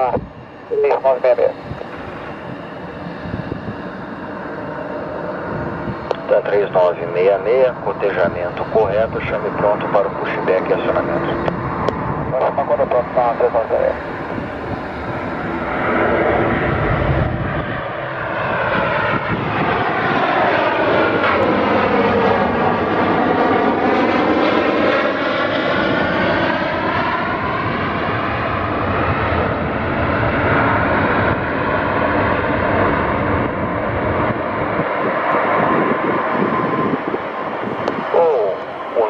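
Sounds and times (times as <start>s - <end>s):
jet airliner passing by: 0.0s - 39.0s.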